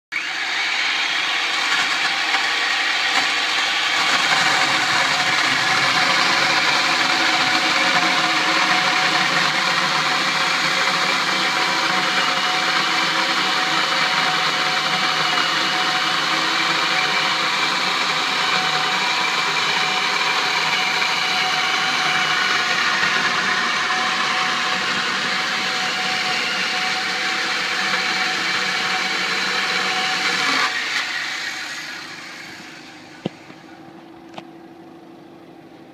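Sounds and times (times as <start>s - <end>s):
chain saw cutting through timber: 0.0s - 33.8s.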